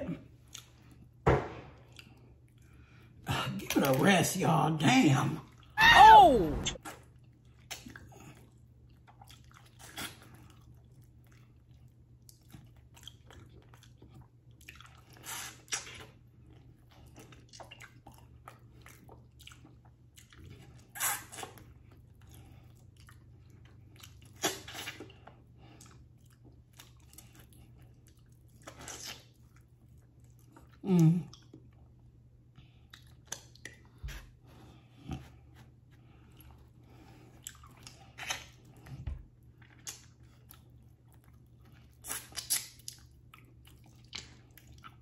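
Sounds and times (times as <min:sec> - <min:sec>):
chewing with wet lip smacks: 0:00.3 - 0:01.2, 0:01.8 - 0:03.2, 0:06.8 - 0:34.0, 0:35.0 - 0:45.0.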